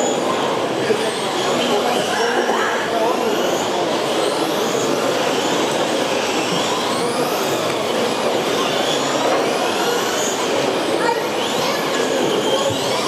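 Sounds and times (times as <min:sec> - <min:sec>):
electric toy truck motors whining: 0:00.0 - 0:13.0.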